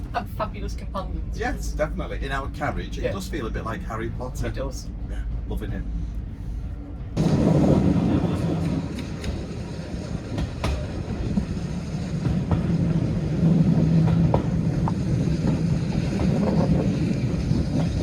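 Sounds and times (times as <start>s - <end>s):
railway carriage rumbling: 0.0s - 18.0s.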